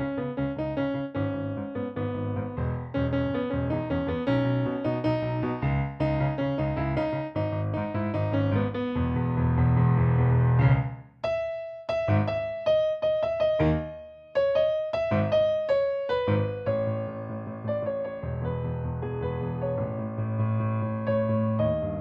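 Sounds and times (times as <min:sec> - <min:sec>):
solo piano playing: 0:00.0 - 0:22.0.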